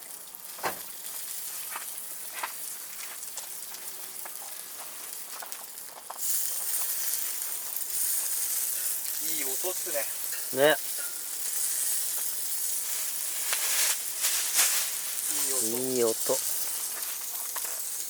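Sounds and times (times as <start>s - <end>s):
meat skewers sizzling over fire: 0.0s - 18.0s
wood fire popping and crackling: 0.0s - 18.0s.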